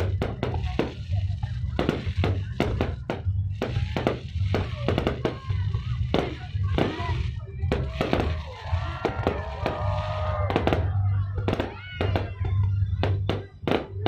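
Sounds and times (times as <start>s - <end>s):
fireworks bursting: 0.0s - 14.0s
music with heavy bass: 0.0s - 14.0s.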